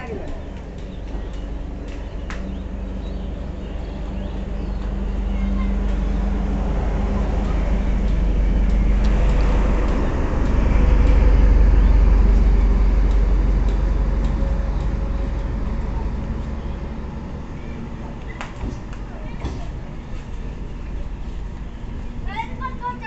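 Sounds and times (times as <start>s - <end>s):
train engine rumble passing: 0.0s - 23.0s.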